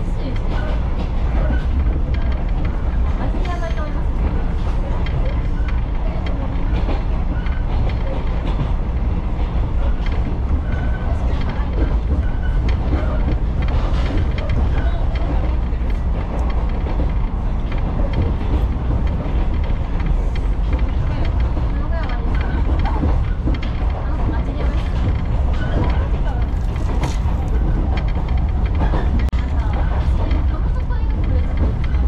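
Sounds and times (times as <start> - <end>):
rail clicks: 0.0 - 32.0
train wheels rumbling on rails: 0.0 - 32.0.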